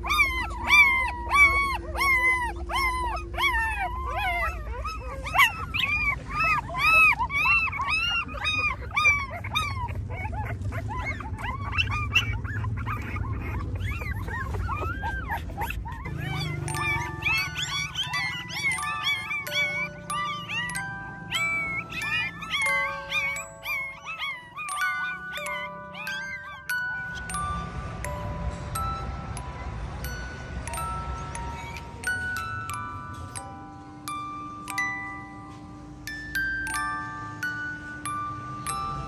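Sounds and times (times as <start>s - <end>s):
puppies whimpering: 0.0s - 39.0s
soft music with held notes: 0.0s - 39.0s.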